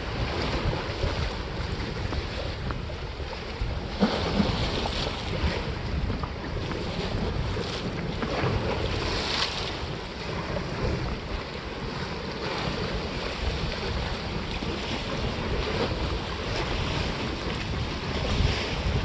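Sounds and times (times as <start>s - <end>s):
waves washing against rocks: 0.0s - 19.0s
wind buffeting microphone: 0.0s - 19.0s.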